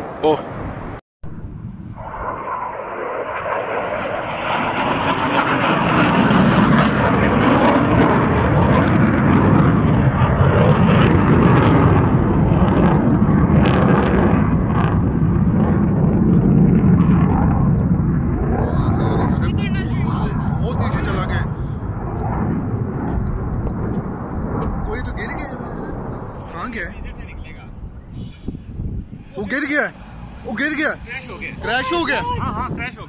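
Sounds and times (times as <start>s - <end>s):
jet flying past overhead: 0.0s - 33.0s.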